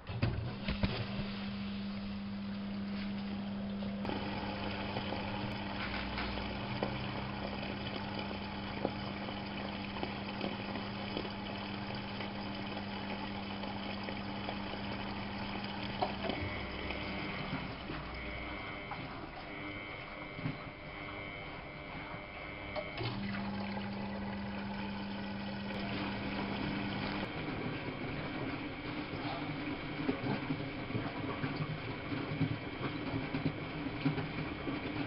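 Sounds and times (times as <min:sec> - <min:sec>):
washing machine low hum: 0:00.0 - 0:35.0
water flowing in washing machine: 0:00.0 - 0:35.0.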